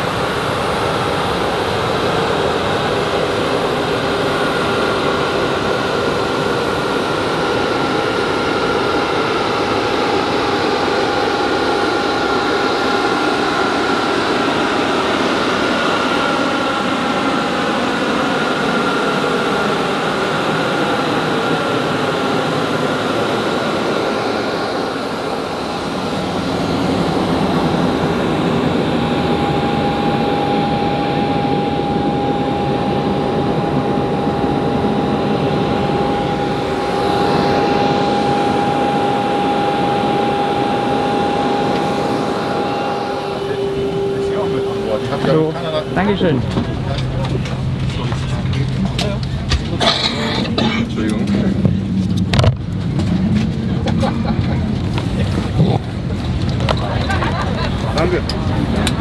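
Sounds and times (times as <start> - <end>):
high whines: 0.0 - 59.0
jet turbine roar: 0.0 - 59.0.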